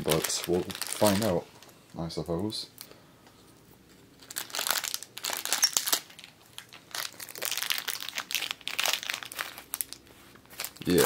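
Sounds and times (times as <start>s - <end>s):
plastic wrapper crinkling: 0.0s - 2.0s, 4.0s - 11.0s.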